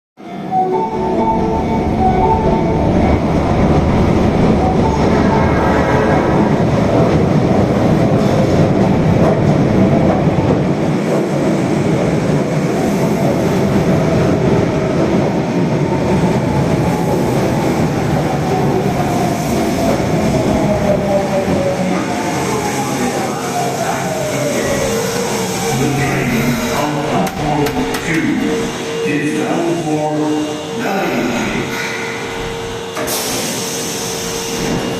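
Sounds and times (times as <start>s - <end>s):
train wheels rumbling on rail: 1.0s - 34.9s.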